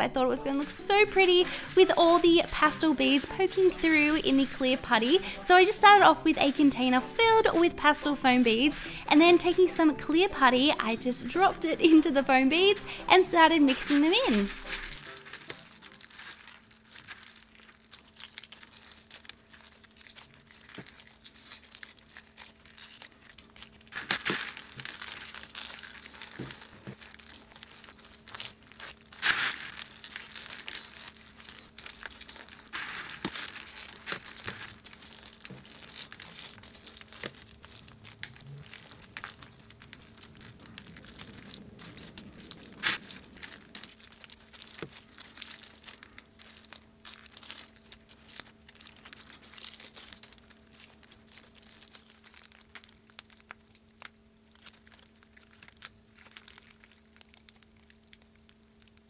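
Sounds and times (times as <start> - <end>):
foam beads crinkling in putty: 0.0 - 59.0.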